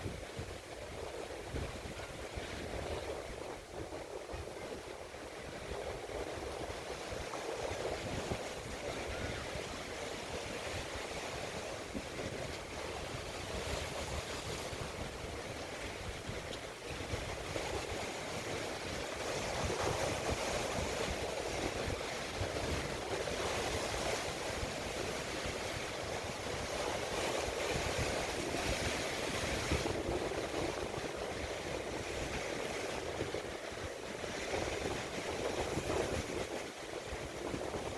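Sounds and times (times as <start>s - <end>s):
rushing water: 0.0s - 37.9s
wind: 0.0s - 37.9s.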